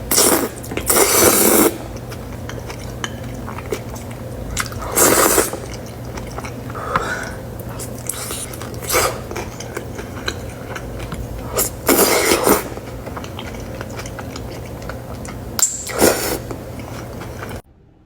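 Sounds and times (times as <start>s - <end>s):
wet chewing and biting: 0.0s - 17.6s
low steady hum: 0.0s - 18.0s.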